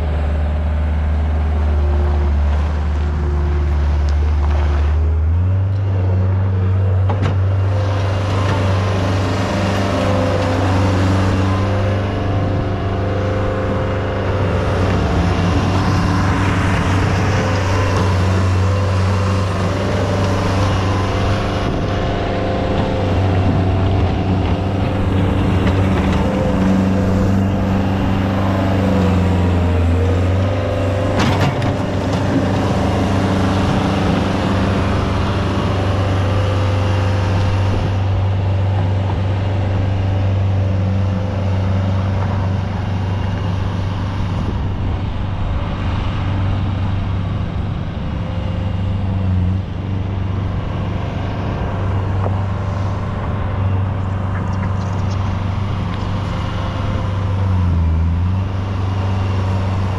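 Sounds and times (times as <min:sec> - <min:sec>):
heavy equipment engine running: 0:00.0 - 0:59.9.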